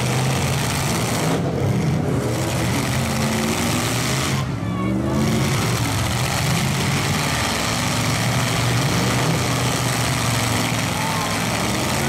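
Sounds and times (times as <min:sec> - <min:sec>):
truck engines droning: 0:00.0 - 0:12.0.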